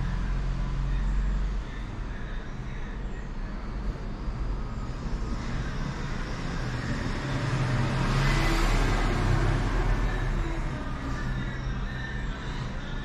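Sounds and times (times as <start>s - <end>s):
road vehicle passing: 0.0s - 2.3s, 4.2s - 13.0s
steady low hum: 0.0s - 13.0s.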